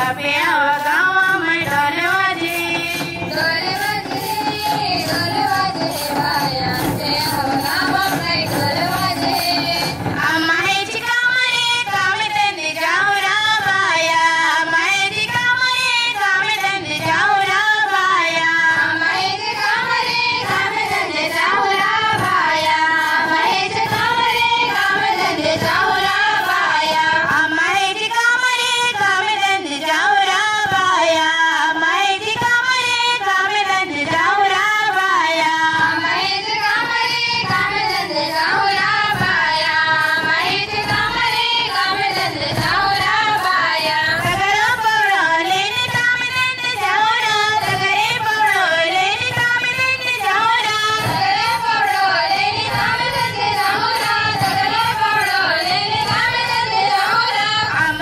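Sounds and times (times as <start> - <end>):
high voices singing folk song: 0.0 - 58.0.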